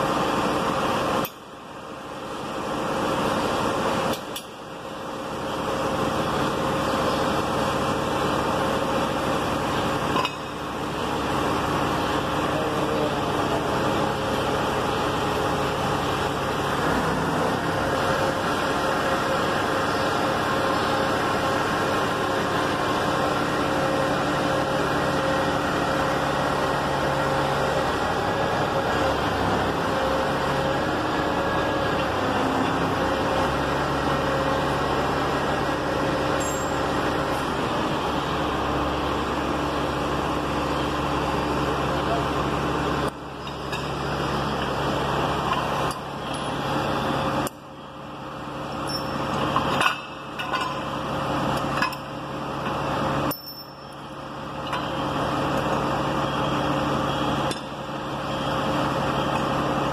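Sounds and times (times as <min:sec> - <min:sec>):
hydraulic power unit hum: 0:00.0 - 0:59.9.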